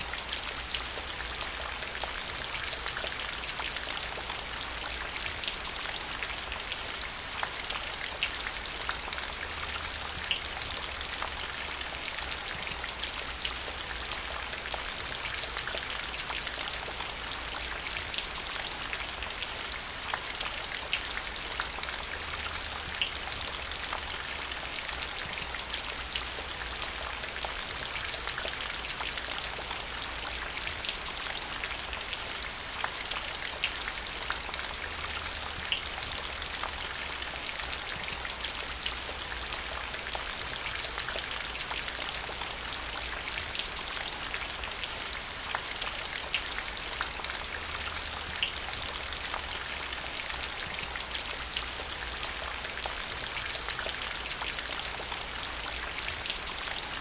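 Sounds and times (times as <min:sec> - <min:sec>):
rain hissing on paving: 0:00.0 - 0:57.0.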